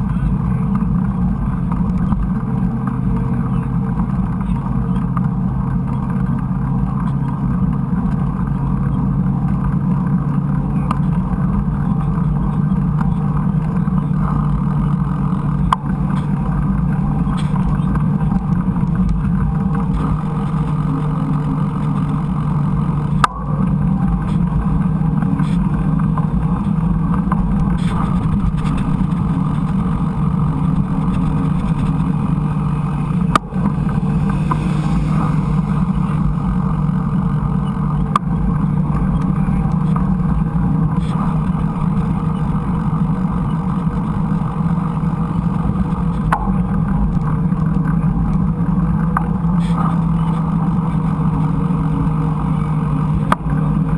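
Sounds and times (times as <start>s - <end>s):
low rumble of wind and tyres: 0.0s - 53.9s.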